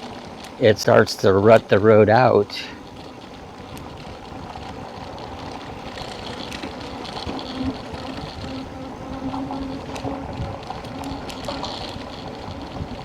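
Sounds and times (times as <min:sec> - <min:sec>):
bike tyres rattling on dirt road: 0:00.0 - 0:13.0.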